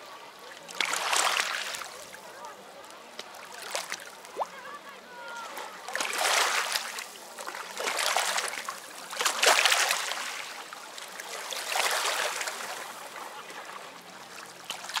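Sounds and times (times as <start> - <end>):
waves lapping over rocks: 0.0 - 15.0.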